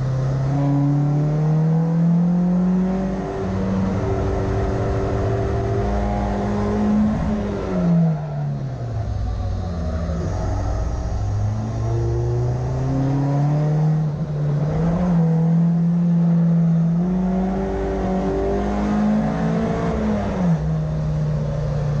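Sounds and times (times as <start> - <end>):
race car engine accelerating: 0.0 - 22.0.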